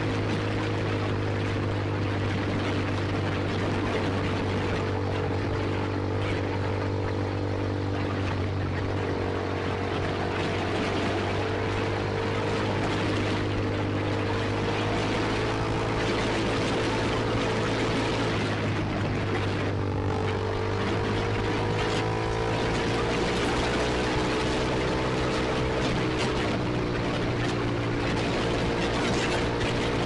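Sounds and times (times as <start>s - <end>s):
motorcycle engine running steadily: 0.0s - 30.0s.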